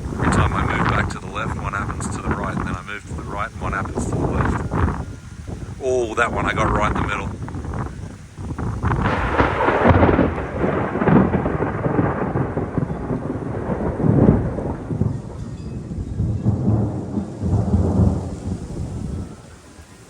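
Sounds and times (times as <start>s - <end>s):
rain falling: 0.0s - 20.0s
thunder rumbling: 0.0s - 20.0s.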